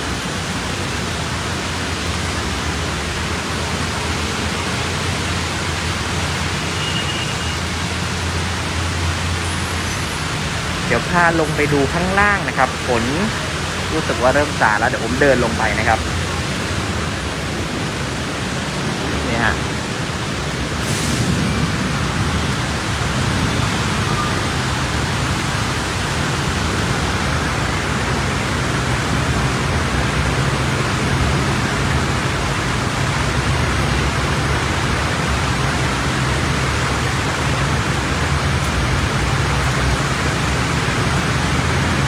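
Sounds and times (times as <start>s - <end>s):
rain rushing: 0.0s - 42.0s
vehicles driving through floodwater: 0.0s - 42.0s.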